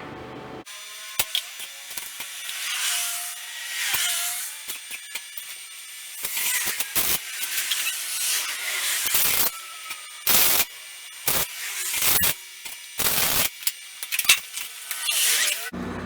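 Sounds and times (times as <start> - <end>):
welder crackling hiss: 0.7 - 7.9, 8.7 - 15.7.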